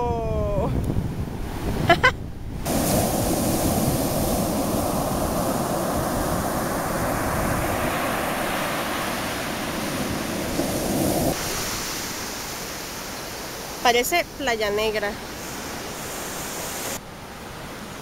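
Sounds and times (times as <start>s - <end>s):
wind buffeting microphone: 0.0s - 16.6s
ocean surf breaking on beach: 0.0s - 18.0s.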